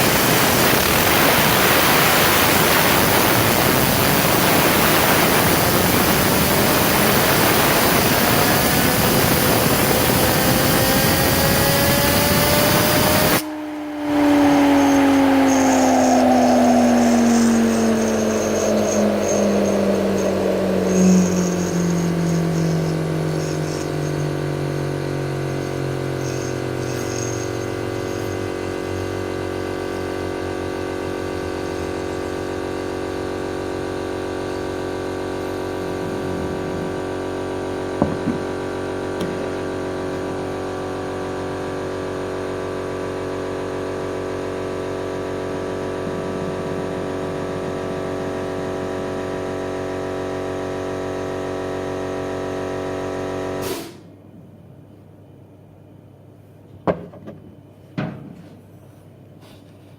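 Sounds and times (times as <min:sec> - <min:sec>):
spinning machine hum: 0:00.0 - 0:53.6.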